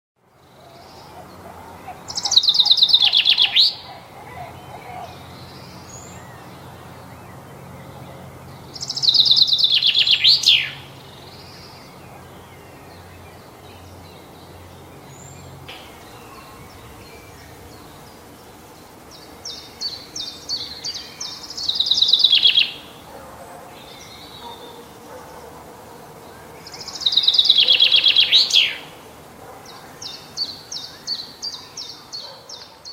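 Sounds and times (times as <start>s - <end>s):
chaffinch singing: 0.3s - 32.9s.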